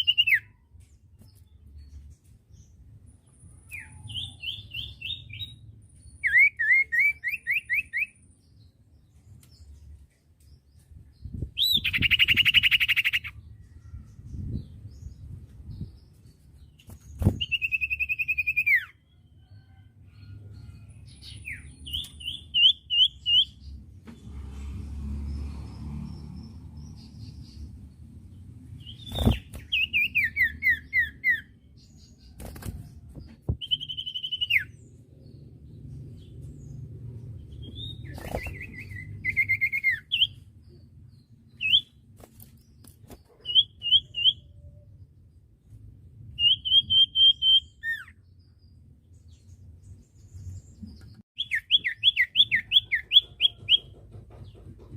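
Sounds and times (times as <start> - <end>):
bird chirping song: 0.0 - 54.9.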